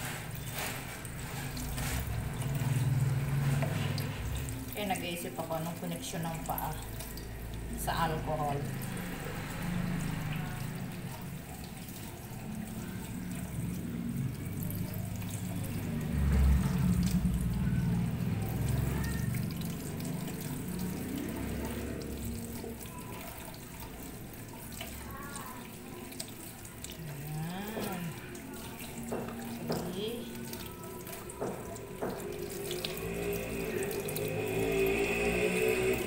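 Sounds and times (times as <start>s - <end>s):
rubbing and rinsing under water: 0.0s - 36.0s
tap water running into colander: 0.0s - 36.0s.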